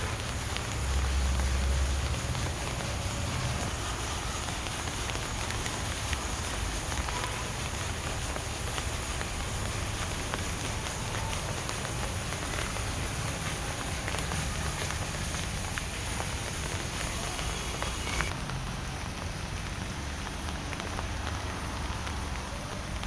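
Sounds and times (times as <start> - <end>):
raindrops ticking on surface: 0.0 - 23.0
steady rain hiss: 0.0 - 23.0.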